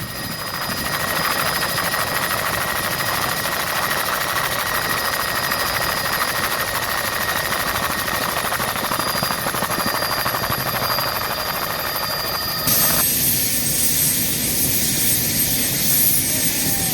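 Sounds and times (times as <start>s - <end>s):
engine noise with high whine: 0.0s - 16.9s
helicopter rotor pulsing: 0.0s - 16.9s.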